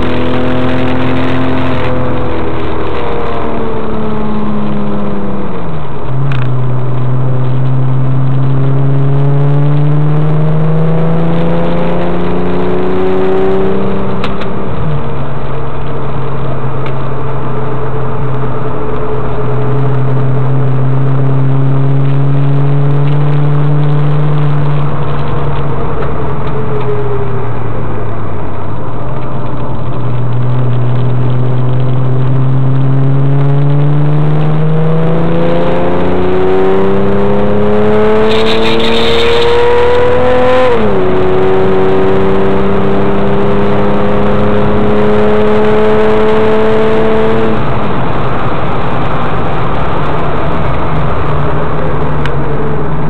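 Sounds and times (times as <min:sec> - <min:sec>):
car engine accelerating from cabin: 0:00.0 - 0:53.0
gear change: 0:10.2 - 0:53.0.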